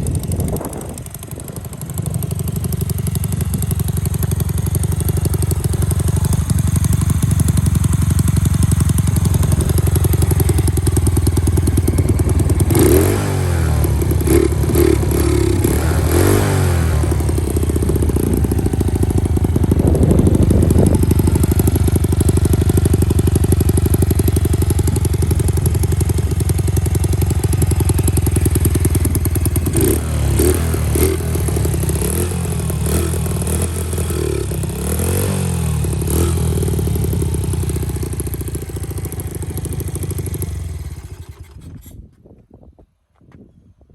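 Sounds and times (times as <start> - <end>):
small motorcycle engine idling and revving: 0.0 - 42.2.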